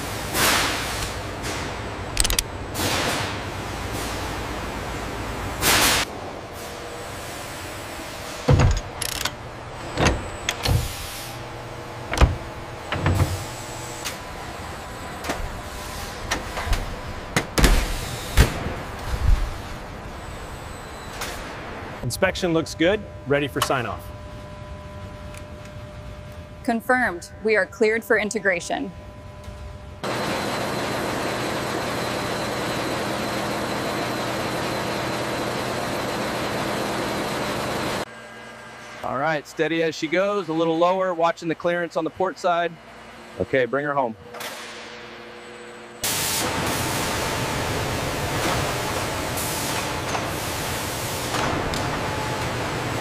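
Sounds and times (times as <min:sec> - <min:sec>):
industrial machinery hum: 0:00.0 - 0:53.0.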